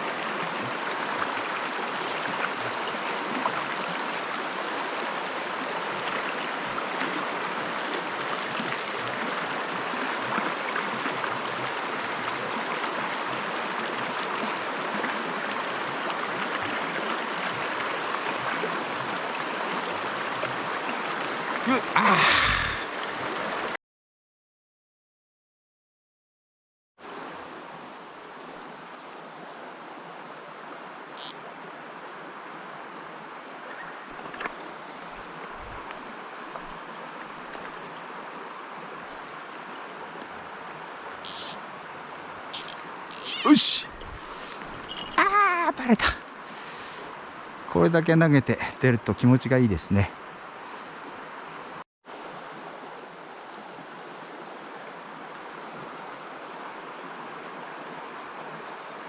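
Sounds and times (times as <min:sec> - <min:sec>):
stream water flowing: 0:00.0 - 0:23.8, 0:27.0 - 0:59.0.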